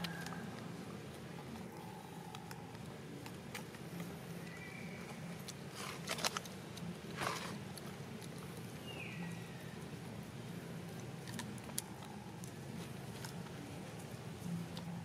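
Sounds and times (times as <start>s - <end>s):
monkey crunching corn: 0.0s - 15.0s.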